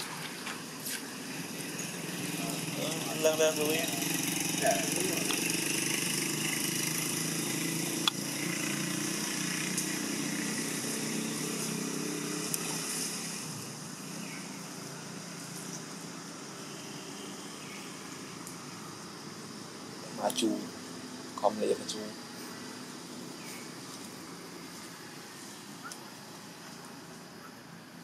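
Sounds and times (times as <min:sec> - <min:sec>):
high hiss: 0:00.0 - 0:28.0.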